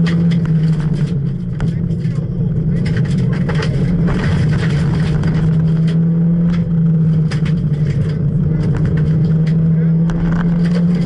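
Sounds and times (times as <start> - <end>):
car engine at high revs: 0.0 - 11.0
gravel pinging against car underside: 0.0 - 11.0.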